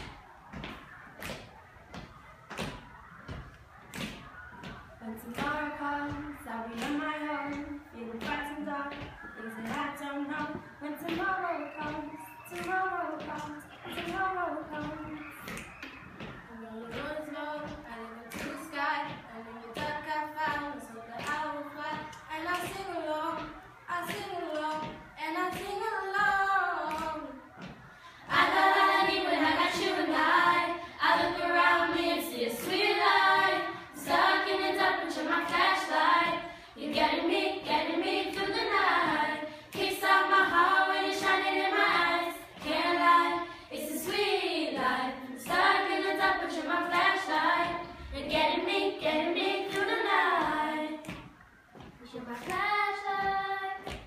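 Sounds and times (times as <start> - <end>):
girls singing unaccompanied: 0.0 - 54.0.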